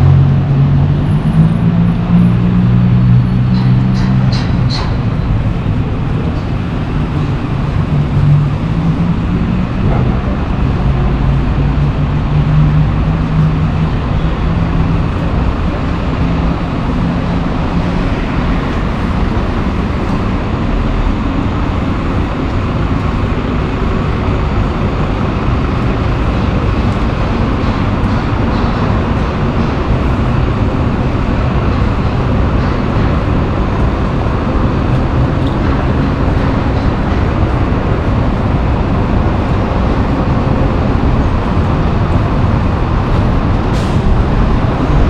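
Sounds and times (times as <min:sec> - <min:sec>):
metro train running: 0:00.0 - 0:45.0.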